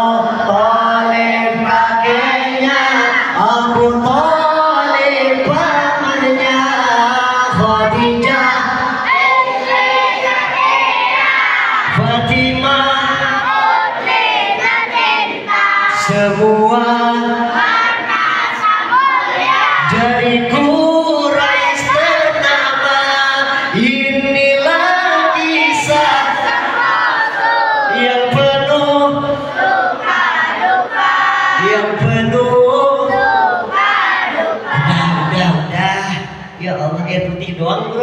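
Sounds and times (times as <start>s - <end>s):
person singing over loudspeakers: 0.0s - 38.0s.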